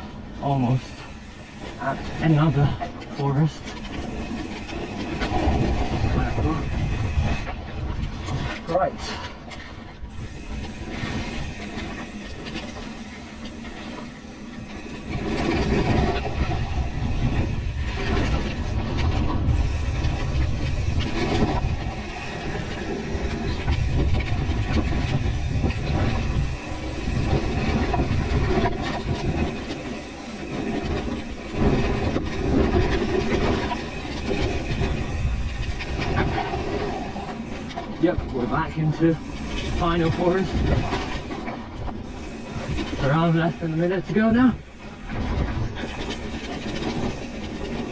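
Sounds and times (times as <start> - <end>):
bike rattling: 0.0 - 47.9.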